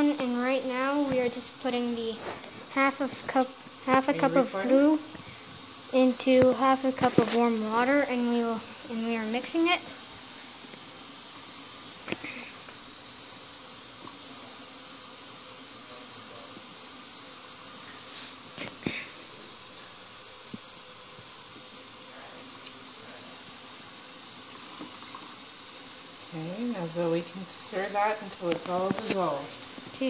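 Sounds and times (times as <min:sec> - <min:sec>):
high-pitched hiss: 0:00.0 - 0:30.0.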